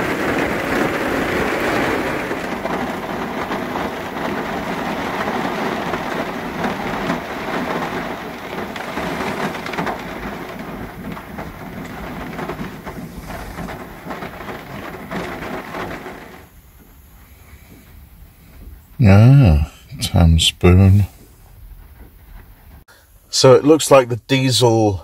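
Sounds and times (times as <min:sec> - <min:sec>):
rain pattering on van roof: 0:00.0 - 0:25.0.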